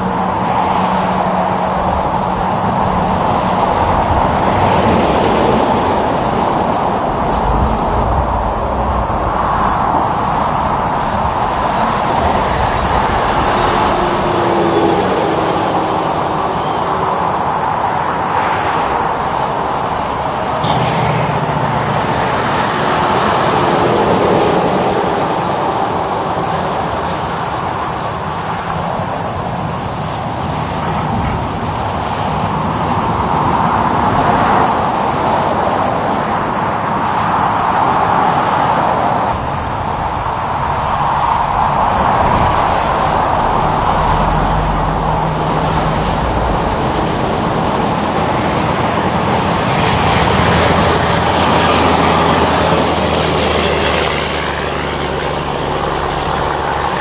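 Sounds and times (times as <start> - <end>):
passing trucks and cars: 0.0 - 57.0.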